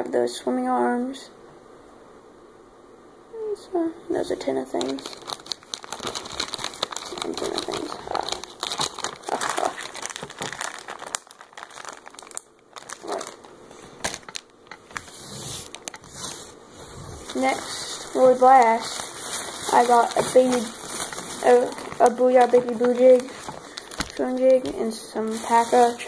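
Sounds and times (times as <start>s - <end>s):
plastic packets crinkling: 4.4s - 16.6s, 17.2s - 26.0s.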